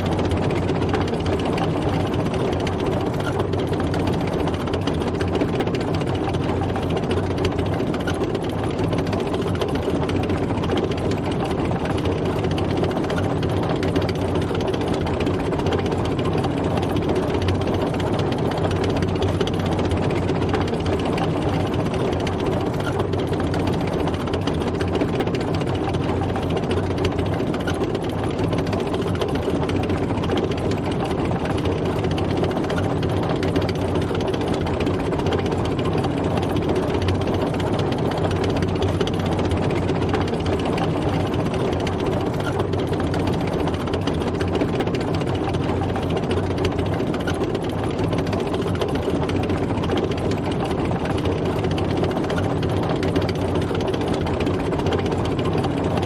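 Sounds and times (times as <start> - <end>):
mechanical rattle: 0.0 - 56.0
tank engine running: 0.0 - 56.0.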